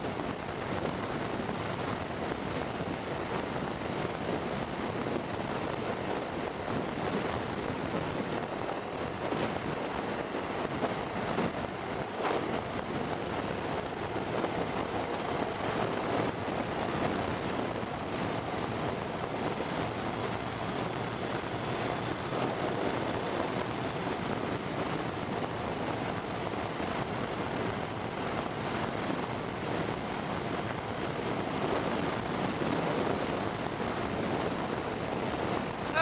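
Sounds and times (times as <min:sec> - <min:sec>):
road and tyre noise: 0:00.0 - 0:36.0
wind rushing over microphone: 0:00.0 - 0:36.0.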